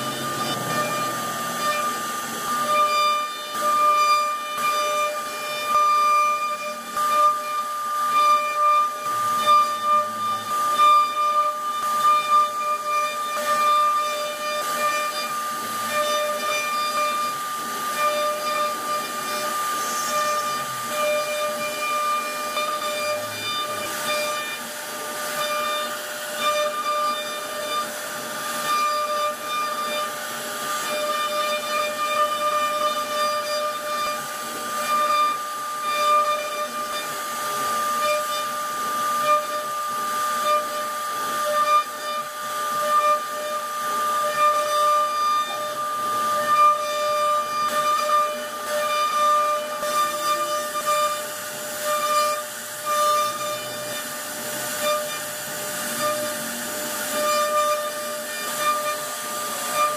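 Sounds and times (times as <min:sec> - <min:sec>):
router spindle carving wood: 0:00.0 - 0:59.9.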